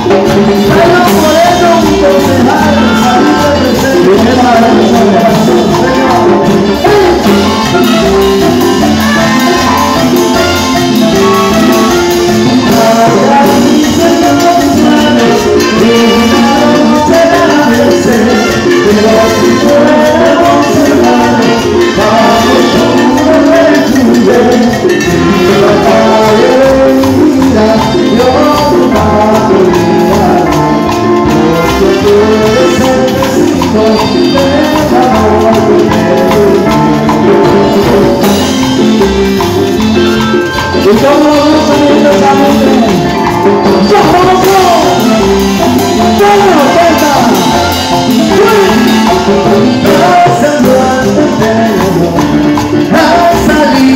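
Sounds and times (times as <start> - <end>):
trumpet: 0.0 - 52.1
drums and cymbals: 0.0 - 53.9
keyboard: 0.0 - 53.9
live dance band music: 0.0 - 53.9.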